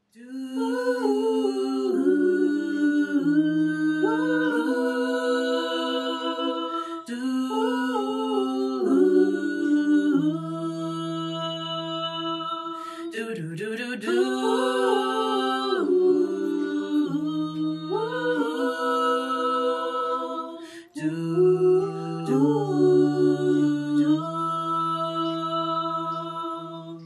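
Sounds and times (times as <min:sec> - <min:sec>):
a cappella female vocal harmonies: 0:00.0 - 0:27.0.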